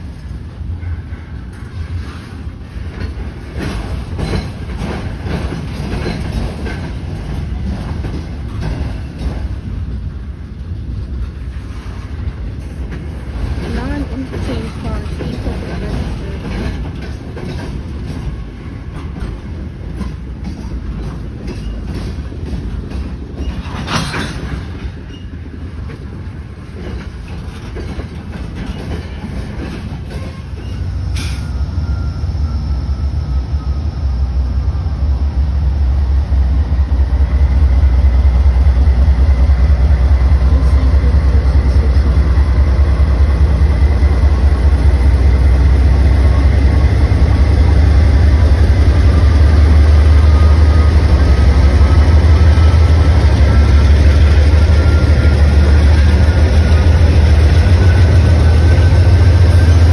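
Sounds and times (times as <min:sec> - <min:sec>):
freight train wheels clattering: 0:00.0 - 0:59.9
locomotive engine rumble: 0:00.0 - 0:59.9.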